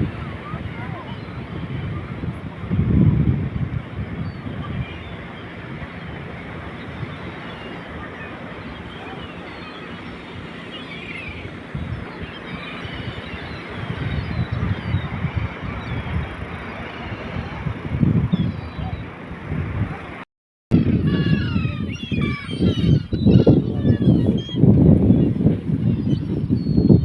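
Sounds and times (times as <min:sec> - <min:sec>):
sea noise: 0:00.0 - 0:27.0
wind buffeting microphone: 0:00.0 - 0:27.0.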